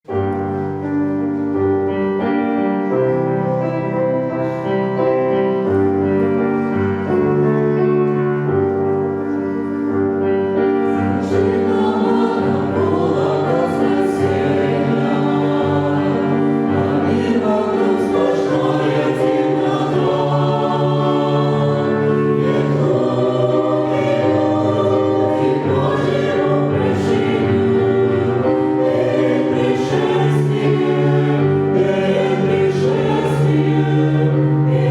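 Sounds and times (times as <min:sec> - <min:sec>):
church choir singing a hymn: 0:00.2 - 0:34.9.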